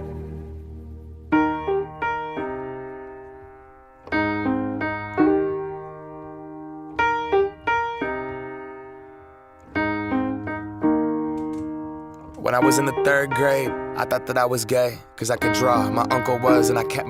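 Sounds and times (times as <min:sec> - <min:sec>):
piano chords ringing: 0:00.0 - 0:17.0.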